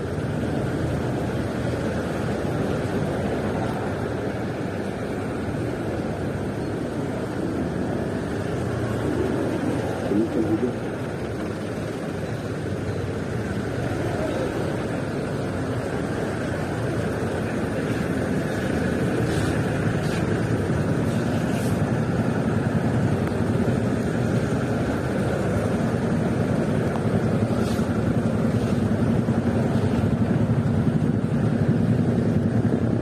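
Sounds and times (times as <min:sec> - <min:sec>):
scooter engine and road noise: 0:00.0 - 0:33.0
trucks running alongside: 0:00.0 - 0:33.0.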